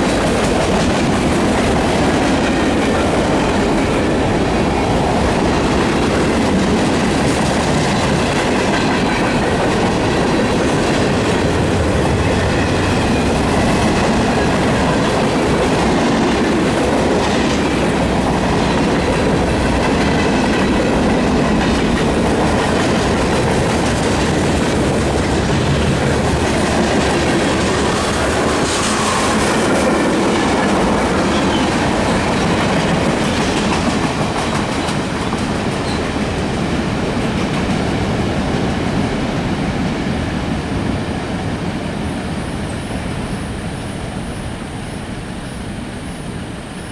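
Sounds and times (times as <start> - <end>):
wheels clacking on rails: 0.0 - 44.5
freight train rolling past: 0.0 - 46.9.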